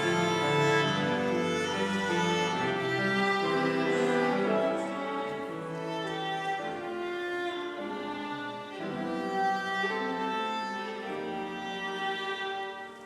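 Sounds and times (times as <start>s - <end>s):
slow bowed string music: 0.0s - 13.0s.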